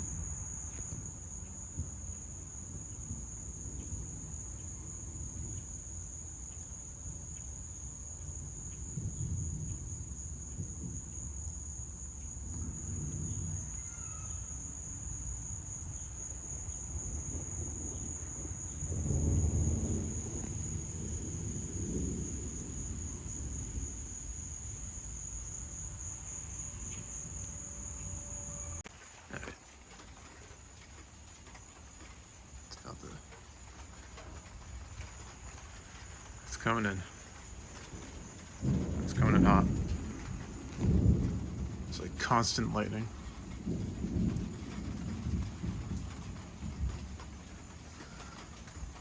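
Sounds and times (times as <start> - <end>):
crickets chirring: 0.0 - 49.0
thunder rumbling: 0.0 - 49.0.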